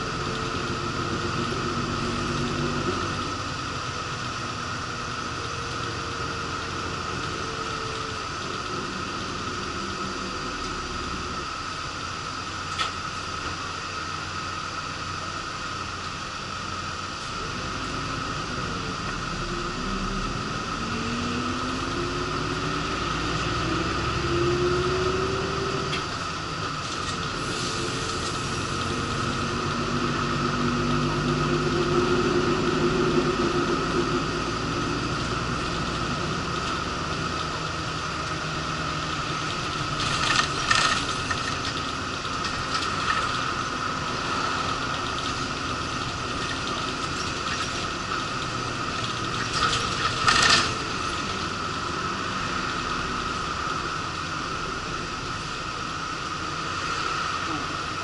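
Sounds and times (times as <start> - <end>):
bus engine running: 0.0 - 58.0
steady whine: 0.0 - 58.0.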